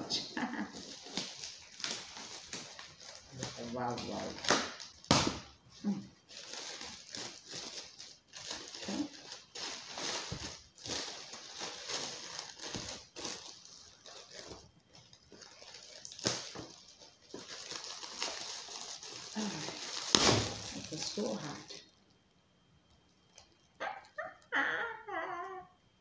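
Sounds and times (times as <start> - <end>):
foil wrapping paper crinkling: 0.1 - 21.9.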